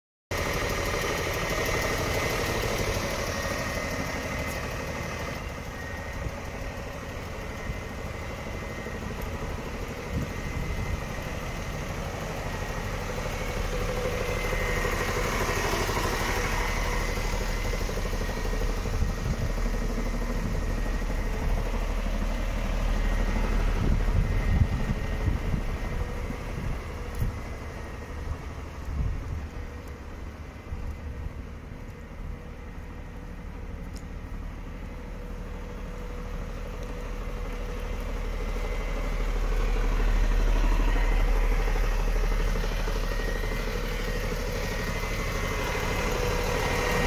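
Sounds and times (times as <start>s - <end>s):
truck diesel engine idling: 0.3s - 47.0s.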